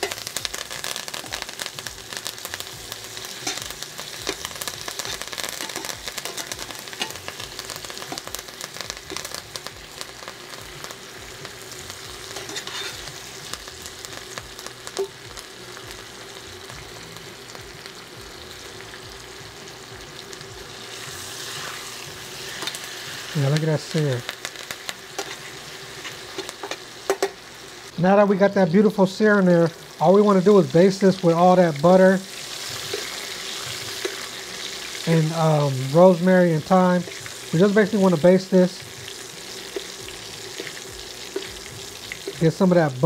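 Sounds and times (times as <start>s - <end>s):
steak sizzling in a pan: 0.0s - 43.0s.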